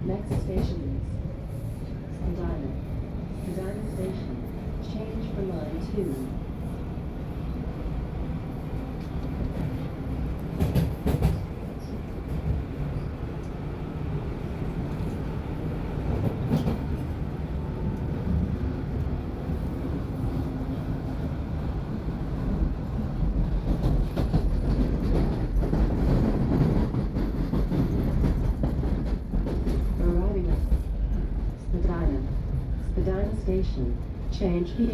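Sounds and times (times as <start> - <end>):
subway train rumble: 0.0 - 34.9.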